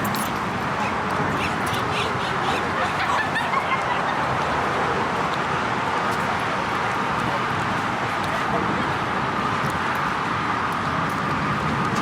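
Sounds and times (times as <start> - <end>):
steady outdoor noise: 0.0 - 12.0.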